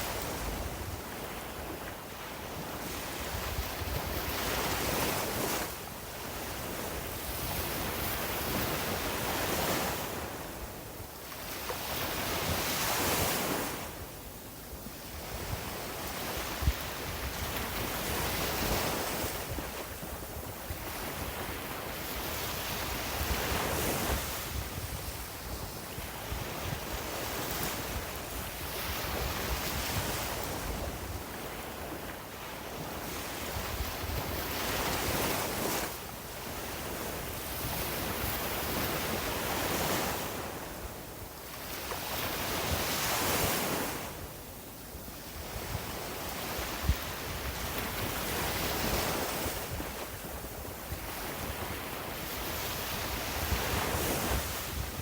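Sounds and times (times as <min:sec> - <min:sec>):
sea waves breaking on a beach: 0:00.0 - 0:55.0.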